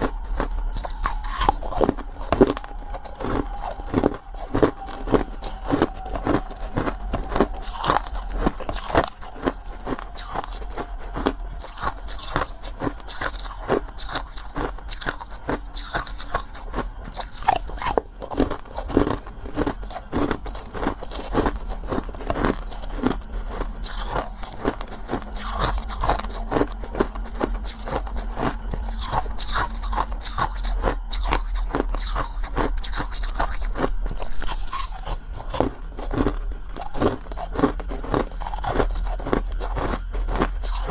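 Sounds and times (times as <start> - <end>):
crunchy food being chewed: 0.0 - 40.9.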